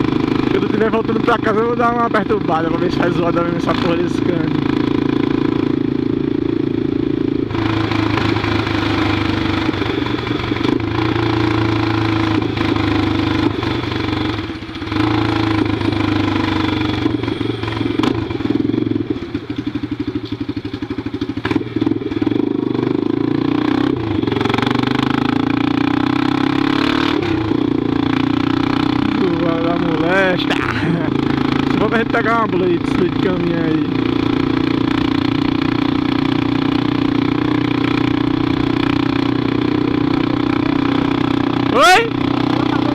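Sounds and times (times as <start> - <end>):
motorcycle engine with open exhaust: 0.0 - 42.9.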